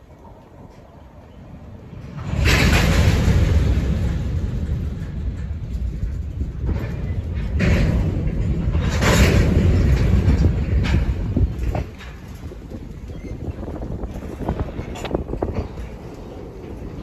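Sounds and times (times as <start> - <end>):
train rolling past: 0.0 - 17.0.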